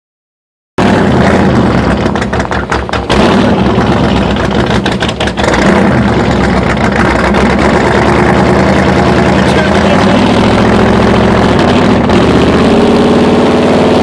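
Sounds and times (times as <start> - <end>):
truck engine running loudly: 0.8 - 14.0.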